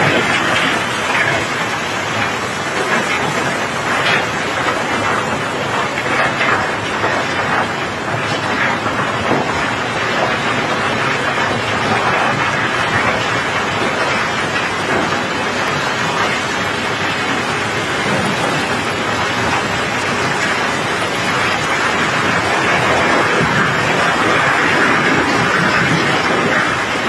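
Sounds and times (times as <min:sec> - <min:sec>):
rain hissing on steel deck: 0:00.0 - 0:27.0.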